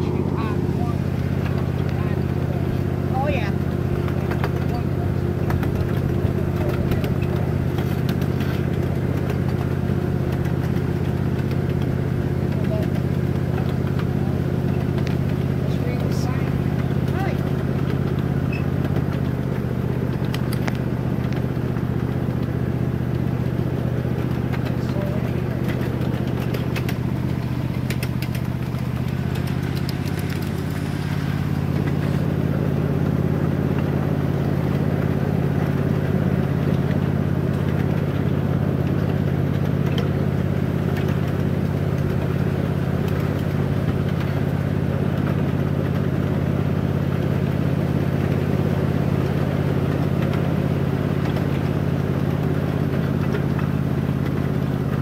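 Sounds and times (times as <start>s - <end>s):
small engine humming: 0.0s - 55.0s.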